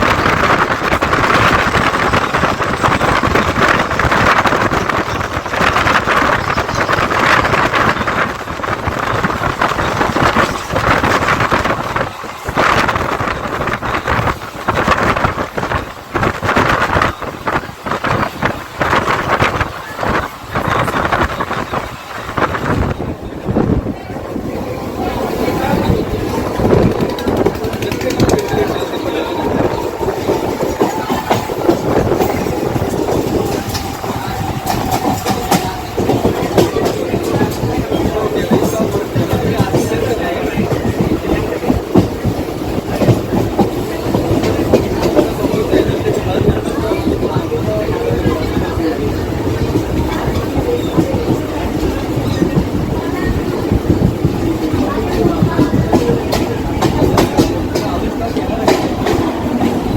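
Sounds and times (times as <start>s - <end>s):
train wheels rumbling on track: 0.0s - 59.9s
wind rushing over microphone: 0.0s - 59.9s.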